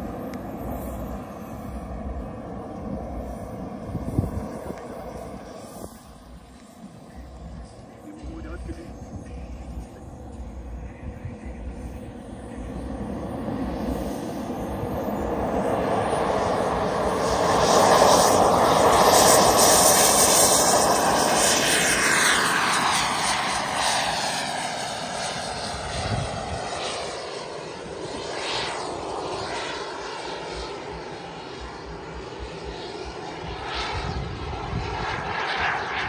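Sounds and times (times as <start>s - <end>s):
model jet roar passing: 0.0s - 36.0s.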